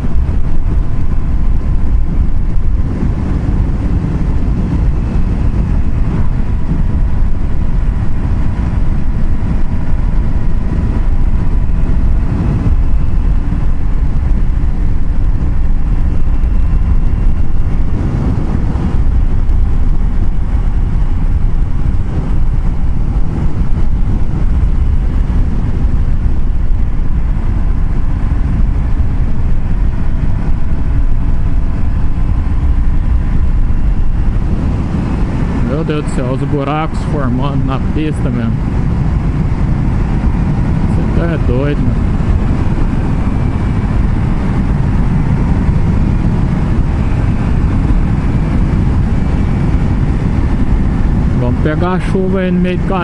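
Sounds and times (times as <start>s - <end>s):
faint steady whine: 0.0s - 53.0s
vehicle road noise at speed: 0.0s - 53.0s.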